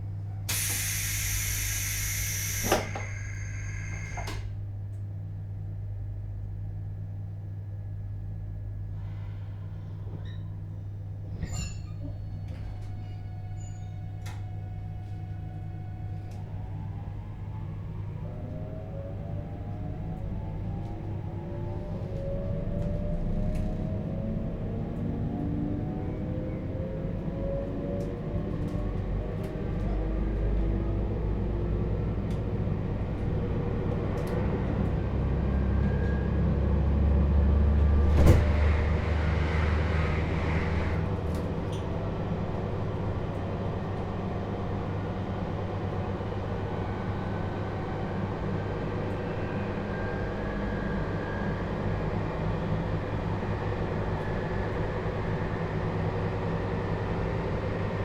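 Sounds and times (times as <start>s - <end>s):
rail noise and wheel clicks: 0.4s - 5.1s, 9.6s - 58.0s.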